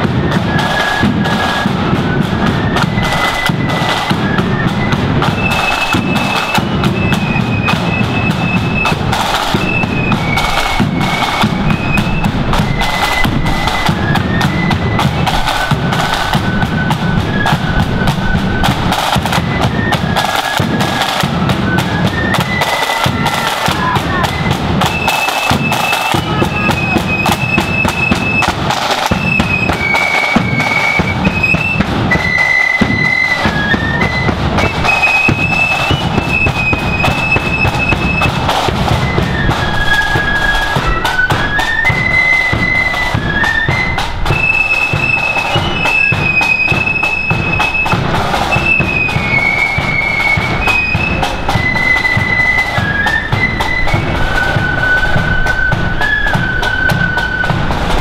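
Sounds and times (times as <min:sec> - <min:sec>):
flute melody: 0:00.0 - 0:58.0
side drum rolls: 0:00.0 - 0:58.0.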